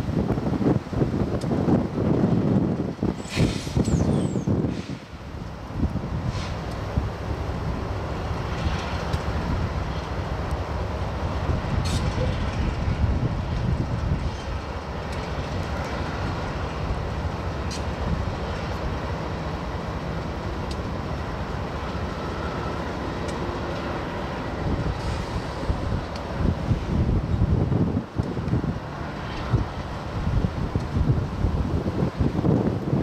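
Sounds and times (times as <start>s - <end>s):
diesel locomotives rumbling: 0.0s - 33.0s
freight cars rolling: 0.0s - 33.0s.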